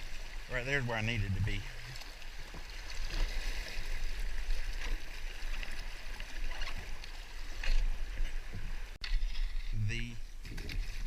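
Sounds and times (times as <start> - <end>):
water splashing and gurgling: 0.0 - 11.0.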